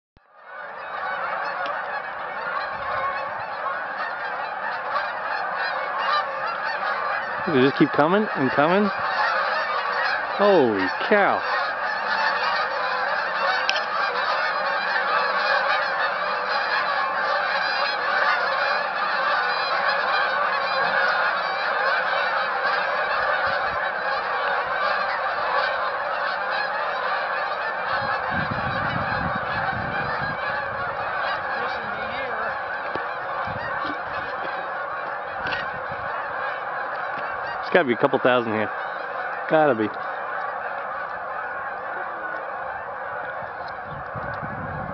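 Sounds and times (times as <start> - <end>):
flock of waterfowl calling: 0.2 - 44.9.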